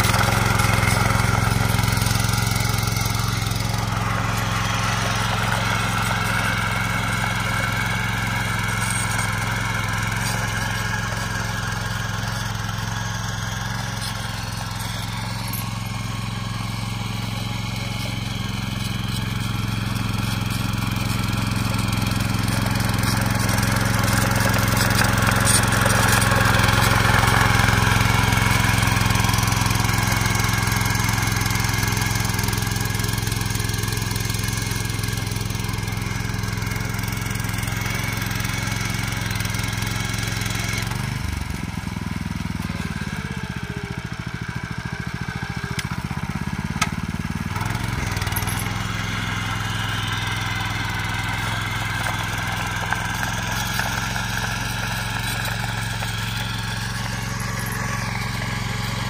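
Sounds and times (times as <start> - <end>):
tiller engine running: 0.0 - 59.0.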